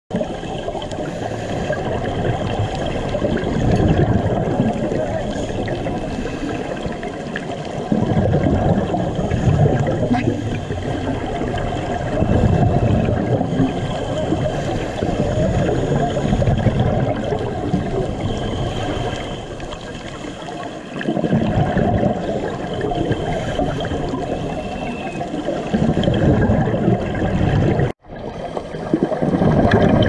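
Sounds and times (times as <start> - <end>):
exhaled bubbles: 0.1 - 30.0
underwater water rush: 0.1 - 30.0.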